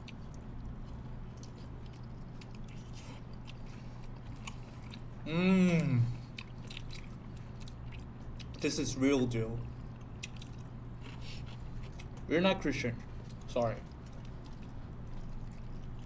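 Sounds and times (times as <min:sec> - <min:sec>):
chewing and biting food: 0:00.0 - 0:05.2, 0:06.2 - 0:08.7, 0:09.6 - 0:12.3, 0:13.0 - 0:16.0.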